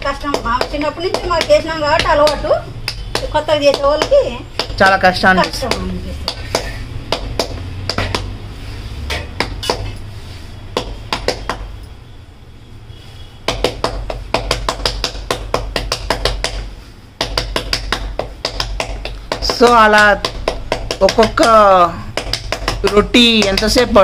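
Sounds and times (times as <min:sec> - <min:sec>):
hands slapping dough: 0:00.0 - 0:08.4, 0:09.1 - 0:10.0, 0:10.7 - 0:11.7, 0:13.4 - 0:24.0.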